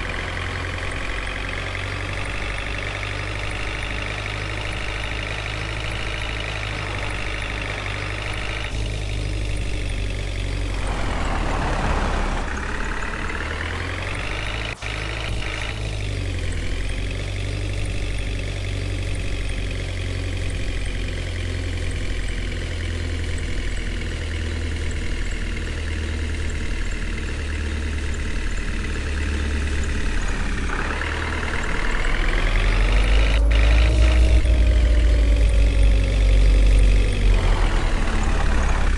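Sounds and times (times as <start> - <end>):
heavy vehicle engine revving: 0.0 - 38.9.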